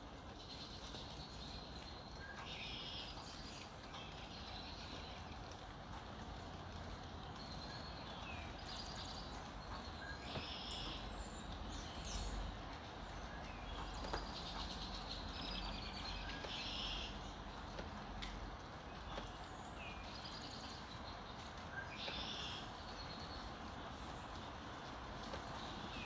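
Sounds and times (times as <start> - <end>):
wild birds singing and chirping: 0.2 - 5.4, 7.0 - 17.6, 18.8 - 24.6.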